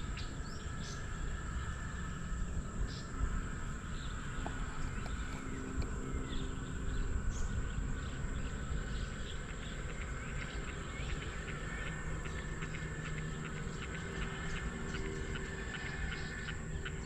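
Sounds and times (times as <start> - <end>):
low rumble: 0.0 - 16.6
high insect drone: 0.0 - 17.0
bird chirps: 2.8 - 17.0.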